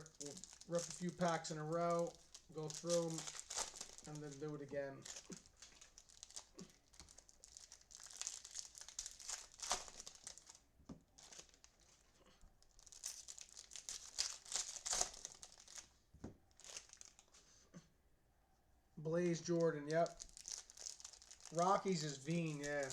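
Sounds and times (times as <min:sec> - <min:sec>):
plastic wrappers tearing and crinkling: 0:00.0 - 0:17.3, 0:19.2 - 0:22.9.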